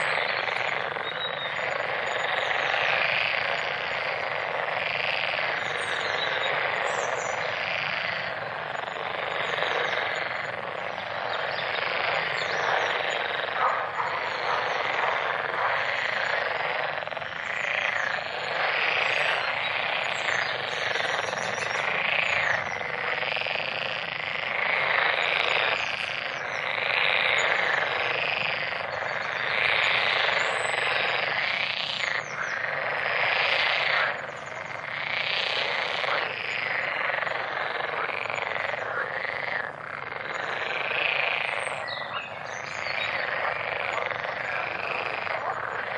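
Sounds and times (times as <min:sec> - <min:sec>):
chorus of frogs croaking: 0:00.0 - 0:45.9.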